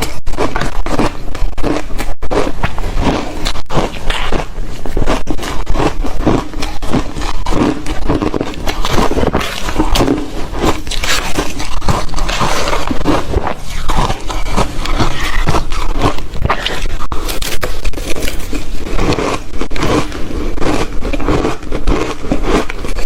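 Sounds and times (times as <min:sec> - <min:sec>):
person crunching ice cubes: 0:00.0 - 0:23.0.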